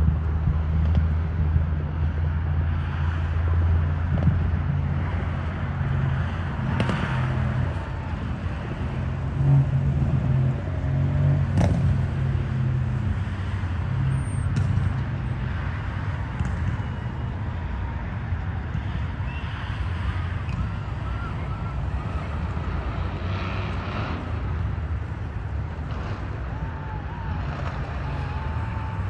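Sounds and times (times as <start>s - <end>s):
vehicle engines humming: 0.0s - 29.0s.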